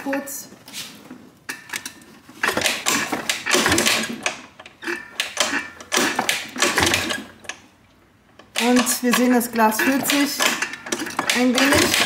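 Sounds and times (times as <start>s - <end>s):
scooter engine cranking: 1.5s - 7.6s, 8.4s - 12.0s
clicks and knocks: 1.5s - 7.7s, 8.3s - 12.0s.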